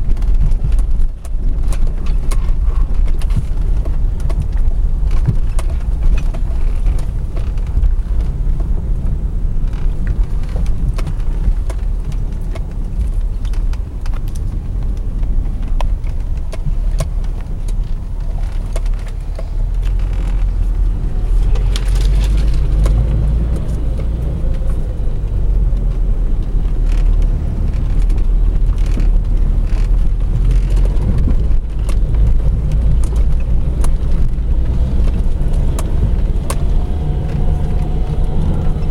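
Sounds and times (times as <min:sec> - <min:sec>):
vehicle low rumble: 0:00.0 - 0:38.9.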